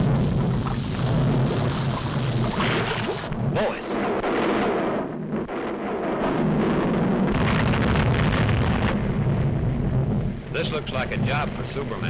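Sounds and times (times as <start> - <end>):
cartoon volcano rumble: 0.0 - 12.0.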